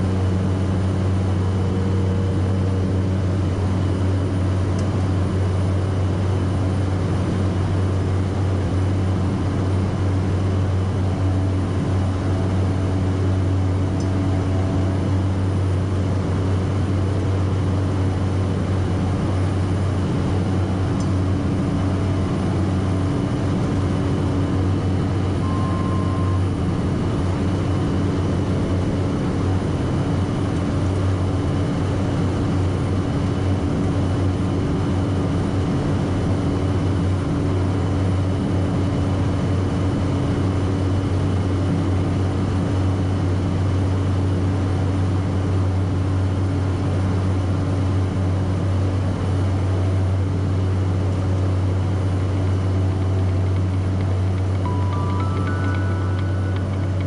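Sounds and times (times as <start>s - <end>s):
propeller engine droning in cabin: 0.0s - 57.0s
steady high engine whine: 0.0s - 57.0s.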